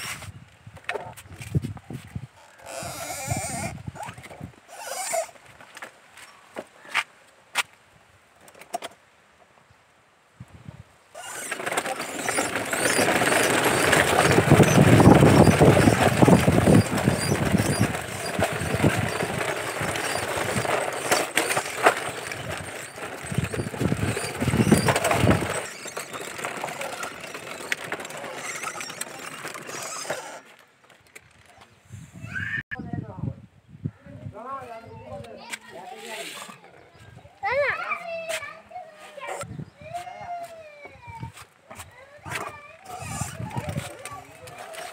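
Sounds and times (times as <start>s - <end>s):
plastic wheels rolling on concrete: 0.0s - 5.9s, 11.2s - 31.8s, 35.2s - 44.9s.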